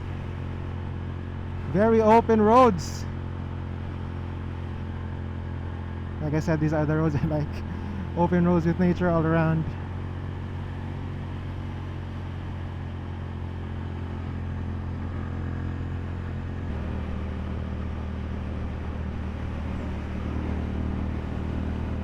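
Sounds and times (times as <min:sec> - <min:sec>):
motorcycle engine cruising: 0:00.0 - 0:22.0
road noise: 0:00.0 - 0:22.0.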